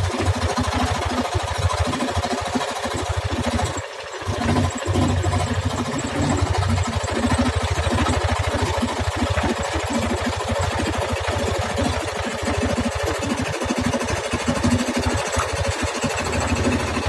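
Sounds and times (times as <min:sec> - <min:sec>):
electric jigsaw cutting wood: 0:00.0 - 0:17.0.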